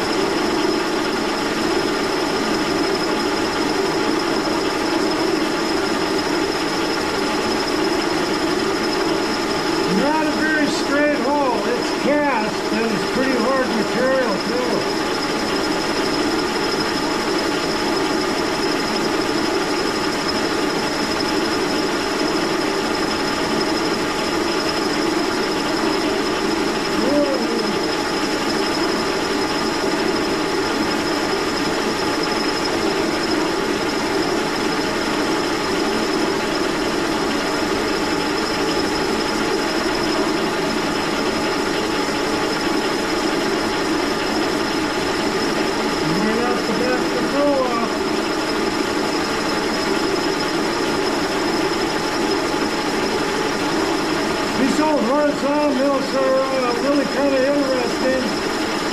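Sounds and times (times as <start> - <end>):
milling machine drone and whine: 0.0 - 58.9.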